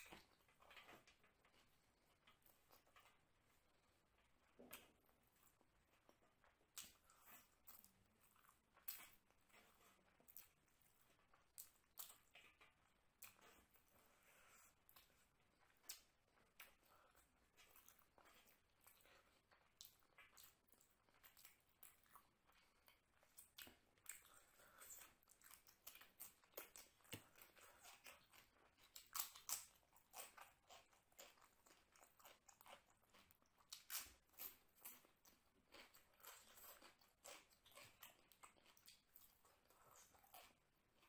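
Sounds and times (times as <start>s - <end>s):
person chewing: 4.6s - 41.0s.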